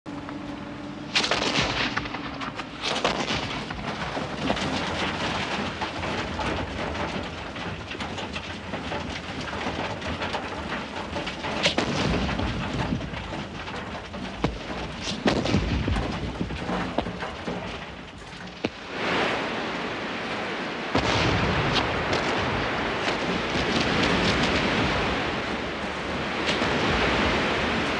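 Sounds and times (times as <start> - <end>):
earth and stones sliding: 1.1 - 27.9.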